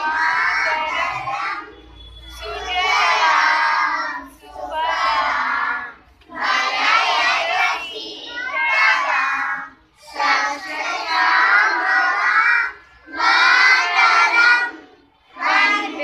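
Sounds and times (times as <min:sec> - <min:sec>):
young children singing: 0:00.0 - 0:16.0.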